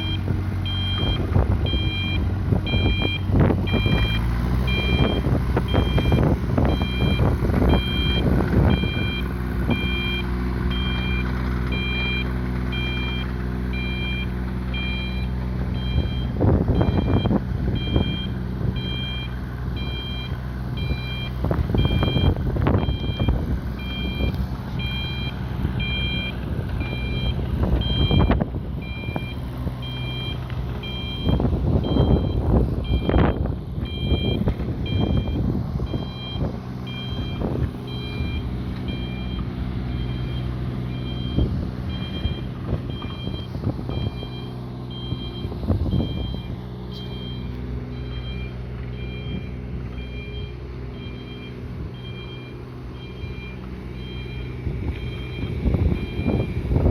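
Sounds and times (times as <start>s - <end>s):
short alarm beeps: 0.0s - 56.6s
excavator engine running: 0.0s - 56.9s.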